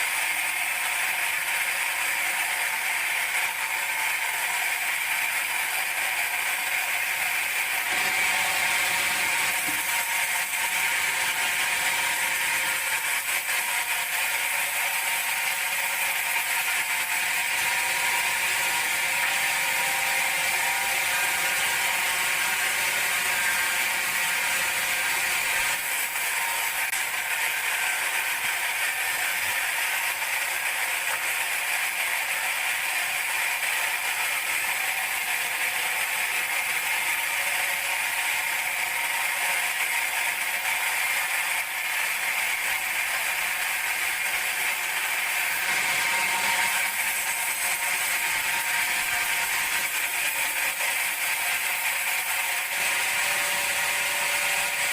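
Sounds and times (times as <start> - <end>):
band saw whining: 1.8 - 35.9, 36.6 - 54.9.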